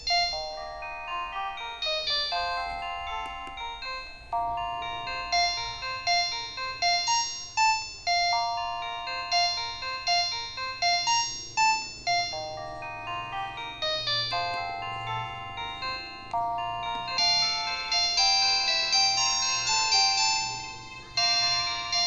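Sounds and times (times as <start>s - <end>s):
polyphonic phone ringtone: 0.0s - 22.0s.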